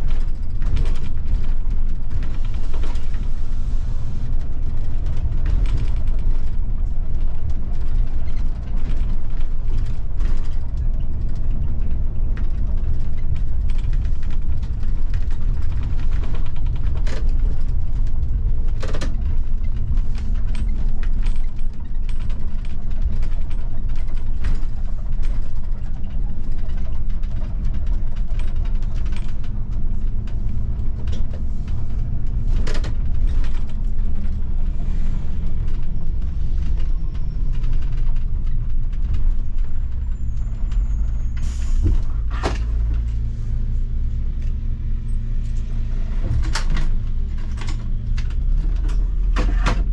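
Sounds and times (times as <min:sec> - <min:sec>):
bus engine and road rumble: 0:00.0 - 0:49.9
cab fittings creaking and rattling: 0:04.2 - 0:43.3, 0:44.1 - 0:49.9.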